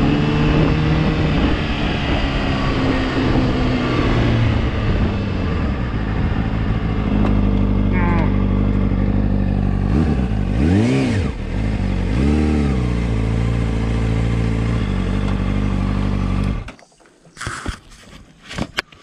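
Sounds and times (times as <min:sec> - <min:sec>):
motorcycle engine idling and revving: 0:00.0 - 0:16.8.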